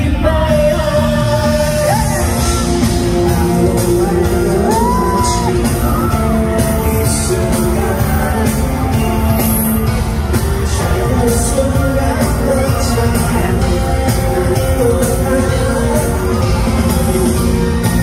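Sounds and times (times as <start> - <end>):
crowd shouting and yelling: 0.0 - 18.0
live band with singing: 0.0 - 18.0.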